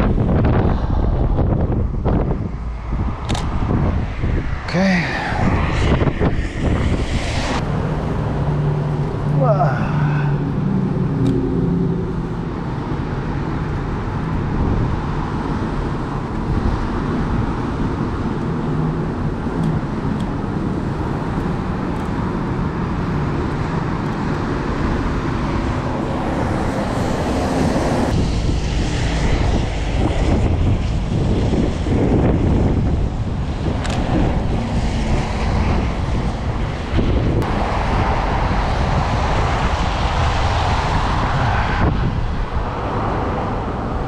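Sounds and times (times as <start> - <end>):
traffic on wet roads: 0.0 - 44.0.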